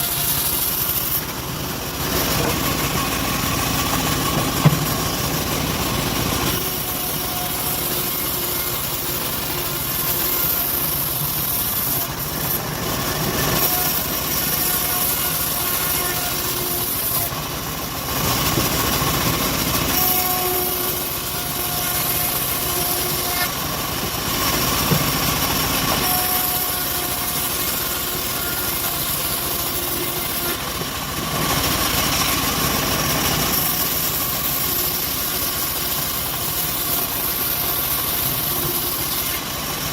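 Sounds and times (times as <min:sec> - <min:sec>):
bandsaw blade cutting hiss: 0:00.0 - 0:01.4, 0:06.4 - 0:17.4, 0:19.7 - 0:30.8, 0:31.5 - 0:39.9
bandsaw mill drone: 0:00.0 - 0:39.9.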